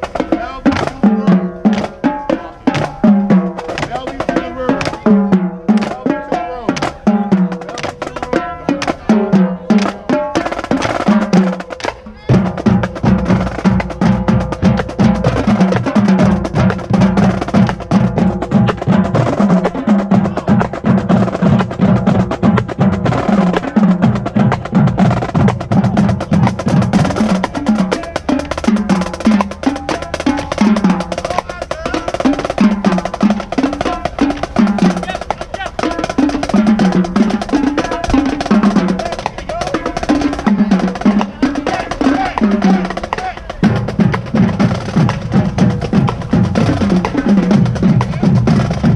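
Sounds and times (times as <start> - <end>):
marching drumline cadence: 0.0 - 48.9
snare drum rolls: 0.0 - 48.9.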